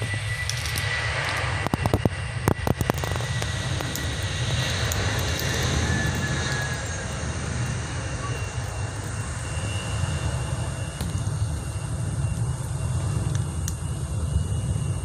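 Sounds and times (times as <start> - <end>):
jet engines rumbling with whine: 0.0 - 15.0.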